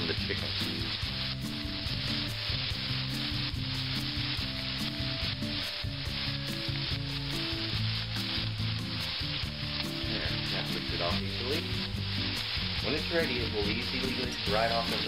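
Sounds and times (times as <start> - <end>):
chicken sizzling in a skillet: 0.0 - 15.0.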